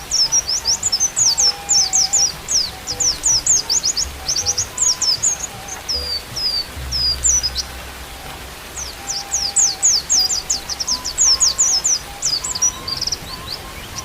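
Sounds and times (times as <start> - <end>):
bird twittering chirps: 0.0 - 14.0
held flute notes: 0.0 - 14.0
rain hiss: 0.0 - 14.0.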